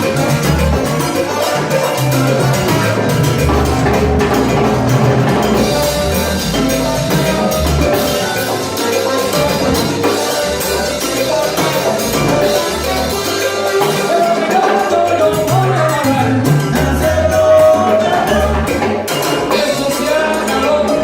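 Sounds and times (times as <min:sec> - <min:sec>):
live salsa band playing: 0:00.0 - 0:21.0
percussion: 0:00.0 - 0:21.0.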